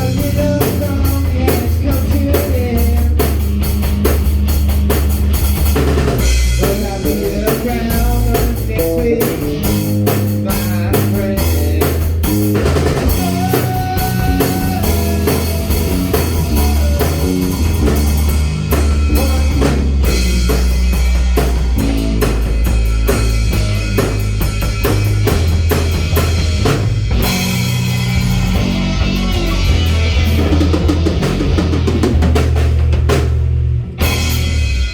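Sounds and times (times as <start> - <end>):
band music: 0.0 - 34.9
drum kit playing steady beat: 0.0 - 34.9
sustained bass notes: 0.0 - 34.9.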